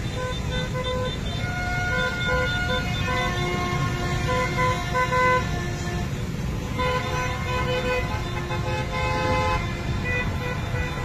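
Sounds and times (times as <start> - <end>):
motorbike and car horns honking: 0.0 - 11.0
rumble of engines: 0.0 - 11.0.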